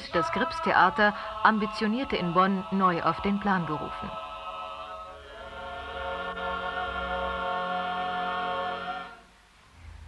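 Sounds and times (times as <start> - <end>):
ensemble singing a held chord: 0.0 - 9.4.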